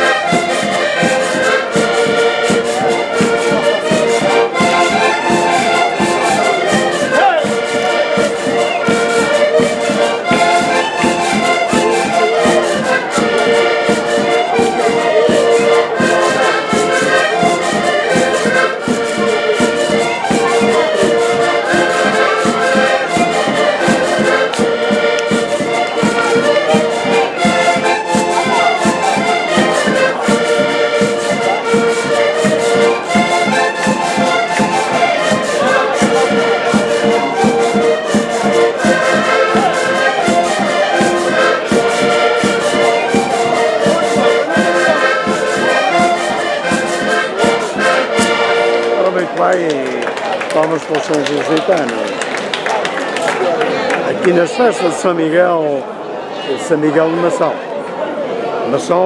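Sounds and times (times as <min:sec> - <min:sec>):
button accordions playing: 0:00.0 - 0:52.9
drum beating: 0:00.0 - 0:54.3.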